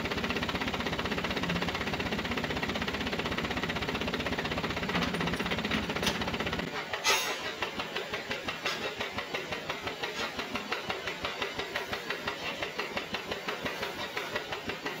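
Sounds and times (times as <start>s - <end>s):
truck engine idling with clatter: 0.0s - 15.0s.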